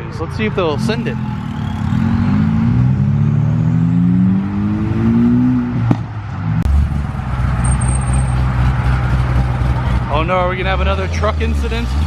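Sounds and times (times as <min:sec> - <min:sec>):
car engine revving: 0:00.3 - 0:12.0.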